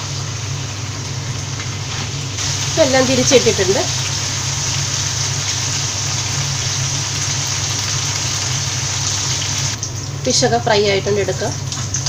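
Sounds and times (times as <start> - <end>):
fish sizzling in hot oil: 0.0 - 10.1.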